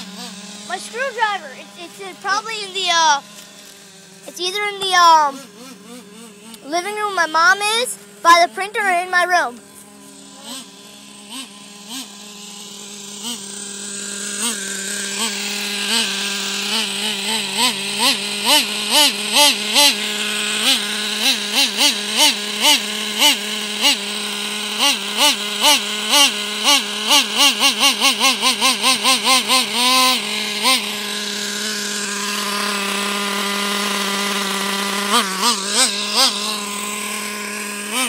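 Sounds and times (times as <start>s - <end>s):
engine throttle blips: 0.0s - 38.0s
nitro engine idling: 0.0s - 38.0s.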